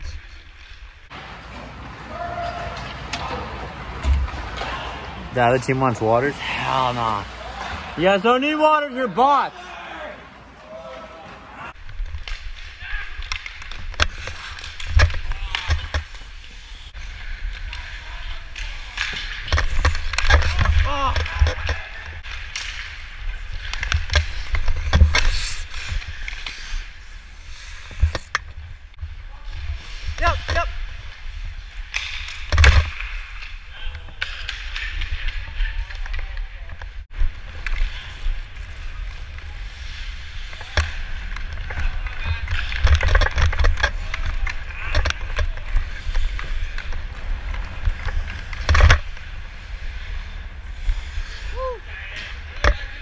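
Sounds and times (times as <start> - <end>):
sticks and pucks clacking on ice: 0.1 - 5.2, 10.9 - 53.0.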